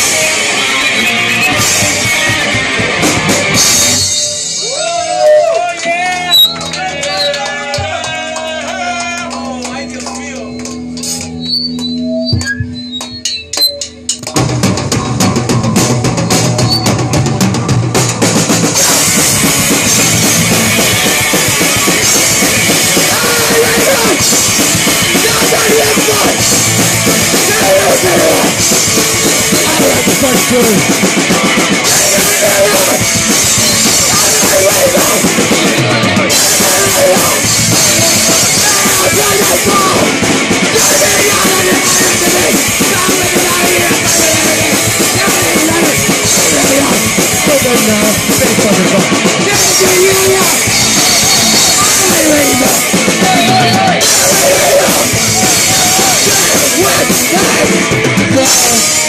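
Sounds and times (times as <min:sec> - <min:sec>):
punk rock band playing: 0:00.0 - 0:59.0.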